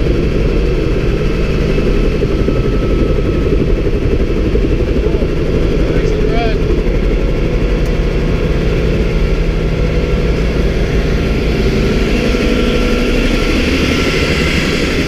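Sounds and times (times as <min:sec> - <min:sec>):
helicopter engine and rotor running: 0:00.0 - 0:15.0.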